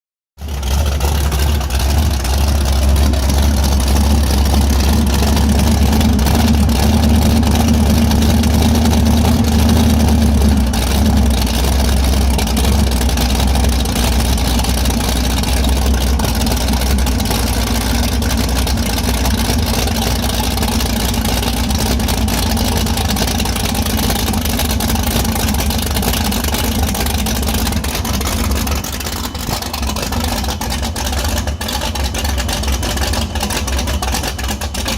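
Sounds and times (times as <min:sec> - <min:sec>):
powerboat engine droning: 0:00.4 - 0:34.9.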